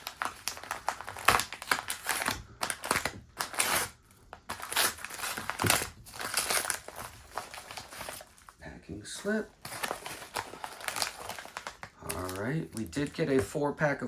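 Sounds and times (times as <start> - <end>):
packing material crinkling: 0.0 - 13.6.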